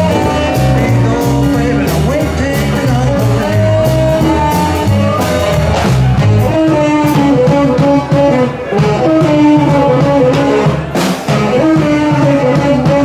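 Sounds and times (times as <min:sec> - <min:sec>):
blues band playing: 0:00.0 - 0:13.0
lead guitar: 0:00.0 - 0:13.0.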